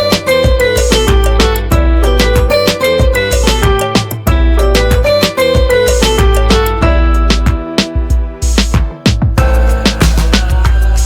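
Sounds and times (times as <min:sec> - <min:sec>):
bass-heavy music with steady beat: 0:00.0 - 0:11.0.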